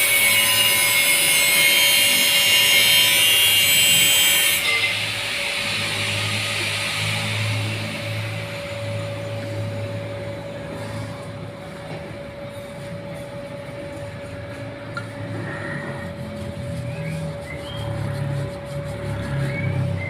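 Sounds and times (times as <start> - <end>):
low pulsing mechanical hum: 0.0 - 20.0.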